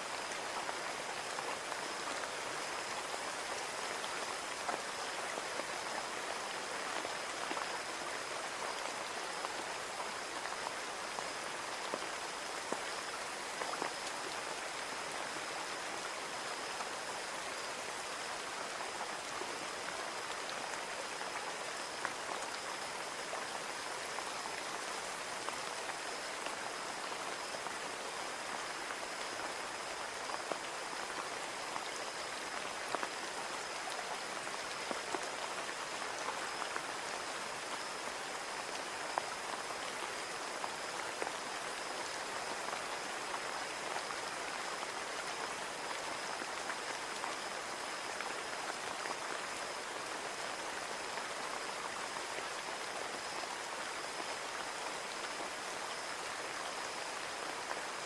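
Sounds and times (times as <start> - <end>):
rain on a window pane: 0.1 - 58.0.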